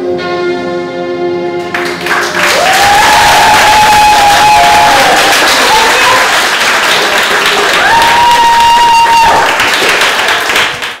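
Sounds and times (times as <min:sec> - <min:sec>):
children clapping and cheering: 0:01.6 - 0:11.0
high-pitched cheer: 0:01.8 - 0:11.0.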